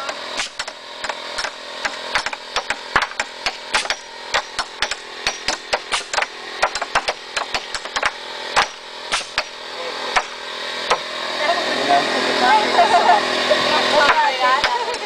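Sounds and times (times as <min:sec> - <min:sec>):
hammers striking wooden boards: 0:00.0 - 0:11.1, 0:14.0 - 0:15.0.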